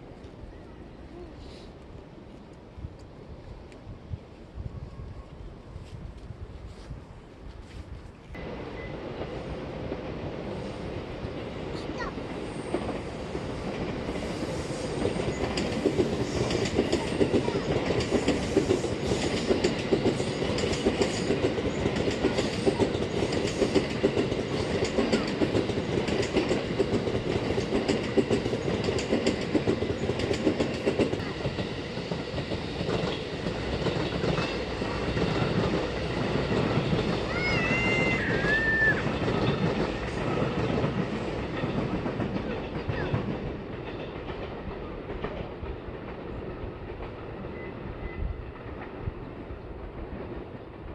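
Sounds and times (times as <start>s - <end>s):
train wheels clattering over rails: 8.4s - 50.9s.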